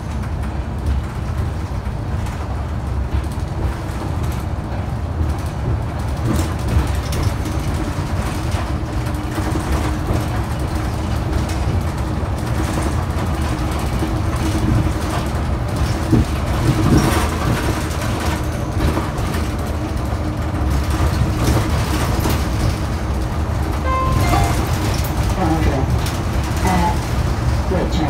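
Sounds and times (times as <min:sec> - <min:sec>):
bus interior rumble: 0:00.0 - 0:28.0.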